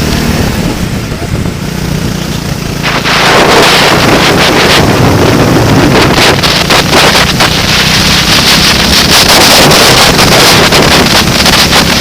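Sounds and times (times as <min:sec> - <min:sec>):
racing vehicle engine: 0:00.0 - 0:12.0
wind buffeting microphone: 0:00.0 - 0:12.0.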